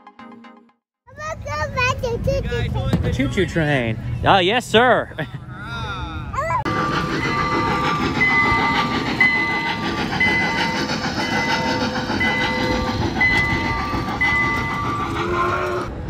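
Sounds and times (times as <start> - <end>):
tourist train passing: 1.1 - 16.0.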